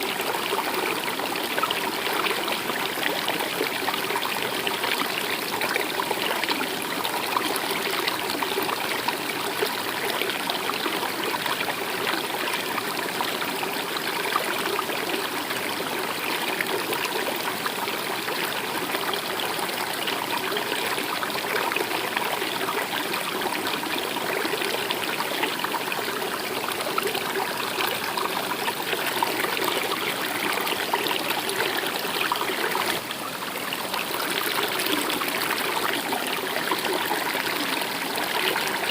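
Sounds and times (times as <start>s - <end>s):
small stream trickling: 0.0s - 38.9s.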